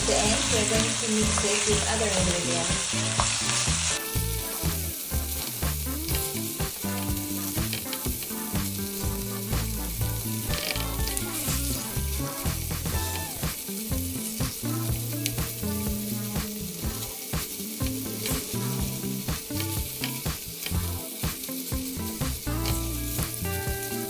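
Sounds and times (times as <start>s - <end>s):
background music: 0.0s - 24.0s
fish sizzling in a pan: 0.0s - 24.0s.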